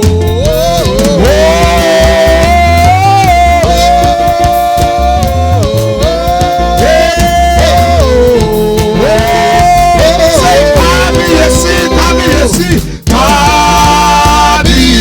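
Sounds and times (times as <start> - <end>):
gospel band with heavy bass: 0.0 - 15.0
person singing long notes: 0.0 - 15.0.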